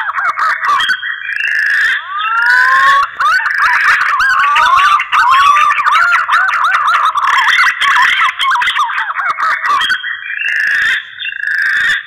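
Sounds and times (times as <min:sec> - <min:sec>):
pigeons whistling calls: 0:00.7 - 0:12.0.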